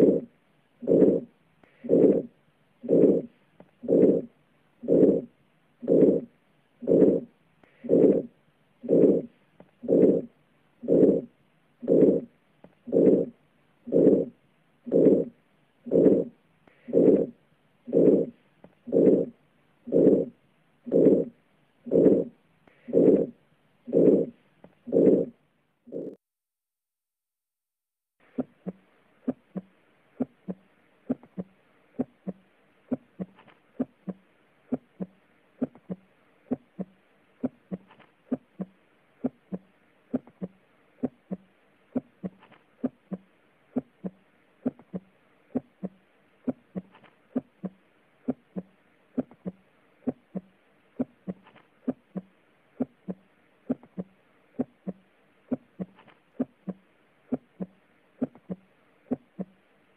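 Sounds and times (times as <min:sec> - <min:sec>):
heartbeat through stethoscope: 0:00.0 - 0:26.2, 0:28.2 - 0:59.6.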